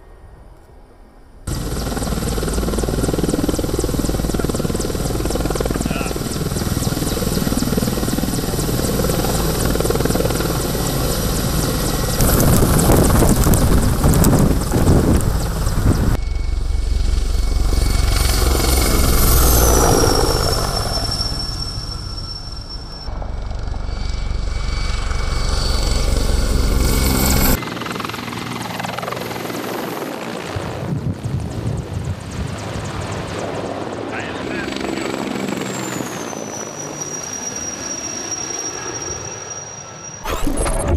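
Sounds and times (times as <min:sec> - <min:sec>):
helicopter rotor and engines: 0:00.0 - 0:40.9
high turbine whine: 0:00.0 - 0:40.9.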